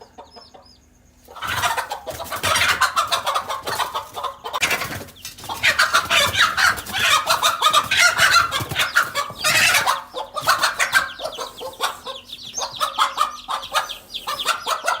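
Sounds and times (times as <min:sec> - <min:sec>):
hen clucking and squawking: 0:00.0 - 0:15.0.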